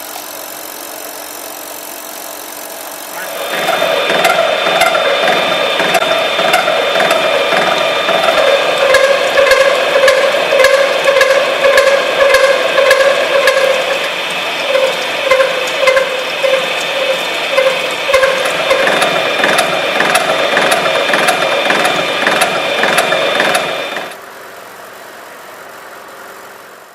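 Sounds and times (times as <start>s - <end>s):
fine ticking of cutter: 0.0s - 24.2s
milling machine whining: 0.0s - 24.2s
faint steady hum: 2.0s - 26.9s.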